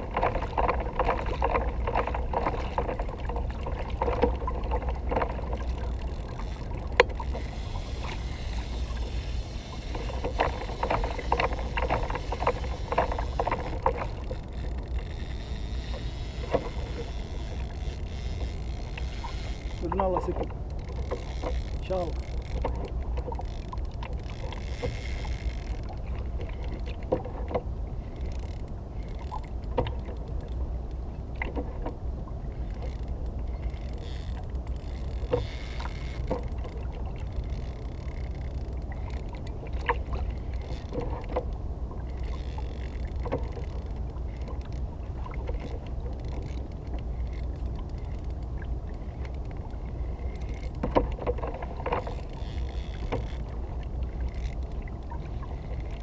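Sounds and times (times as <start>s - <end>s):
water rumbling around kayak hull: 0.0s - 56.0s.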